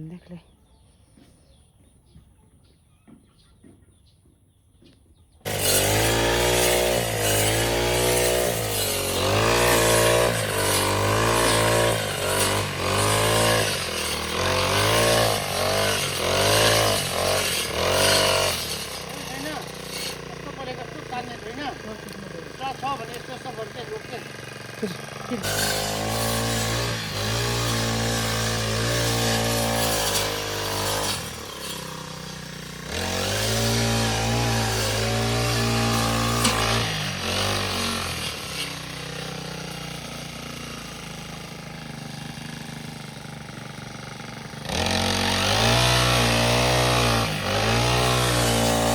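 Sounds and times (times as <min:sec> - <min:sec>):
grass cutter engine revving: 0:05.4 - 0:48.9.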